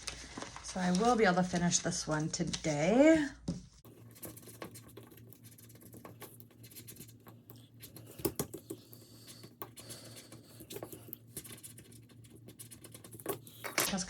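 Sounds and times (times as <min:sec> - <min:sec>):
paper rustling: 0:00.0 - 0:02.6, 0:03.9 - 0:14.0.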